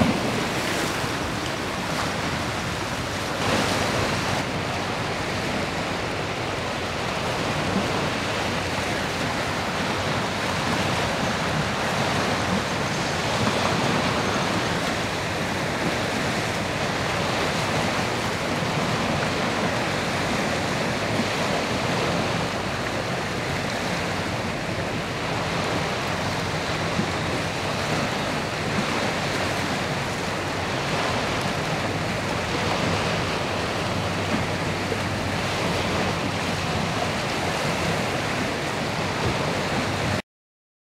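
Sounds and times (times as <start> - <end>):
choppy sea water washing: 0.0 - 40.2
wind on microphone: 0.0 - 40.2.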